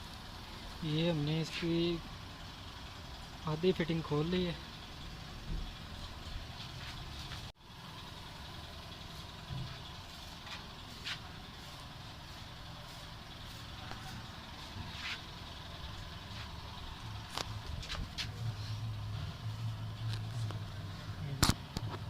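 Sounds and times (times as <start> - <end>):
workshop background rumble: 0.0 - 22.0.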